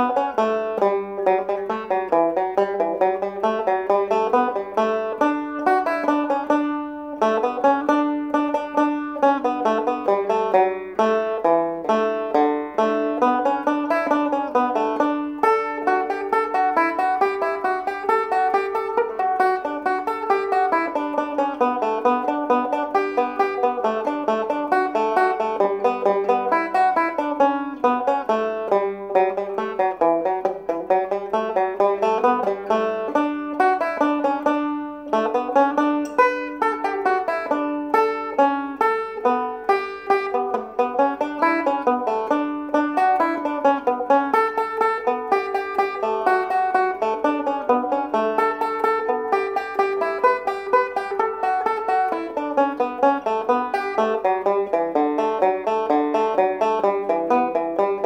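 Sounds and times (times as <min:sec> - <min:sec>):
banjo melody: 0:00.0 - 0:58.0.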